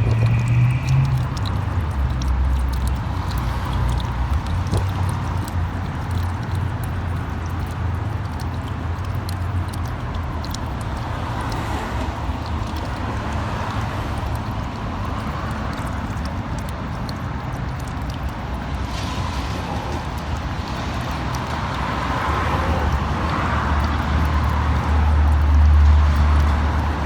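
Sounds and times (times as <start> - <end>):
water rushing through a pipe: 0.0 - 27.0.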